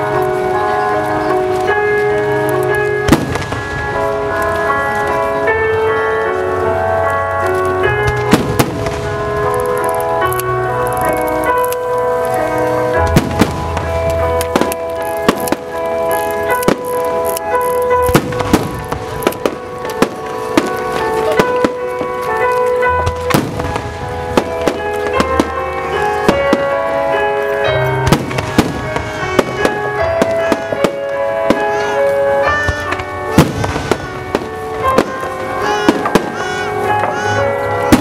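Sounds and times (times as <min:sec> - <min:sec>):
fireworks bursting: 0:00.0 - 0:38.0
music with sustained chords: 0:00.0 - 0:38.0.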